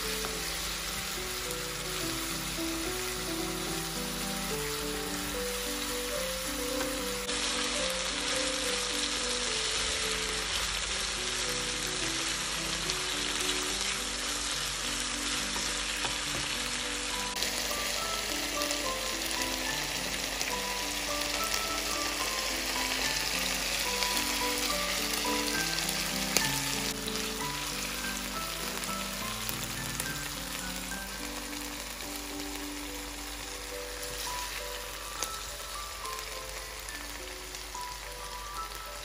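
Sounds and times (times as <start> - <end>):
chicken and onion sizzling in oil: 0.0 - 39.0.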